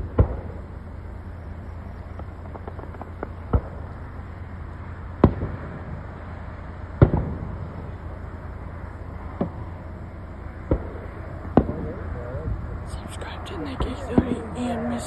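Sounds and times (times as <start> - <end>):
faint fireworks pops: 0.0 - 6.4, 7.0 - 8.3, 9.4 - 9.9, 10.7 - 15.0
fireworks bangs: 0.0 - 15.0.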